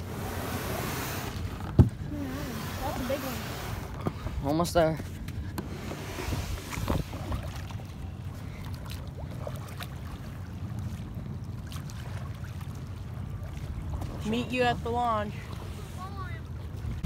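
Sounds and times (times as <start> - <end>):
paddle splashing: 0.0 - 17.0
water lapping: 0.0 - 17.0
wind rumble on microphone: 0.0 - 17.0.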